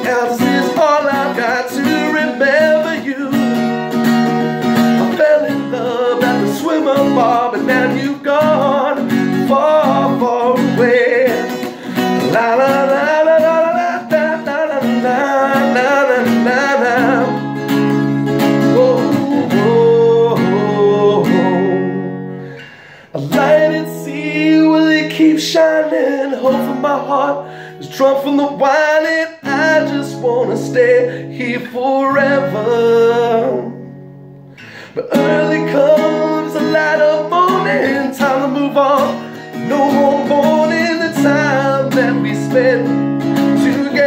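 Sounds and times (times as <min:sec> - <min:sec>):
man singing: 0:00.0 - 0:44.0
strummed acoustic guitar: 0:00.0 - 0:44.0.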